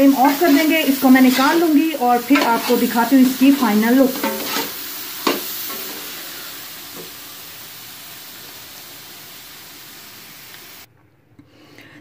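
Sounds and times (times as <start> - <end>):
food sizzling in ghee: 0.0 - 10.9.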